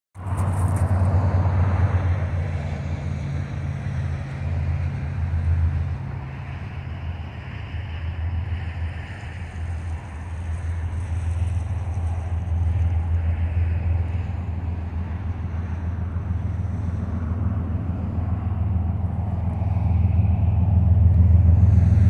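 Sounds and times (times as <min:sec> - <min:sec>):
distant locomotive diesel drone: 0:00.2 - 0:22.0.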